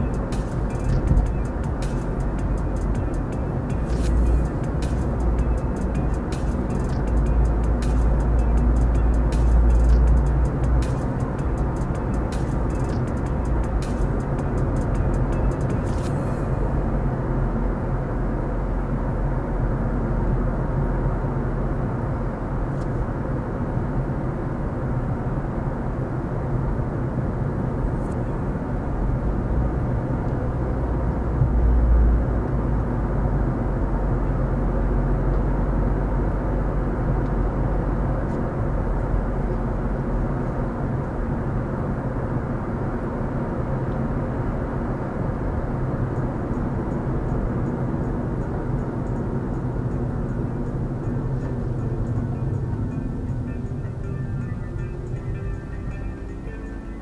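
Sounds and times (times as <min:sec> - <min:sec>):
car interior road rumble: 0:00.0 - 0:57.0.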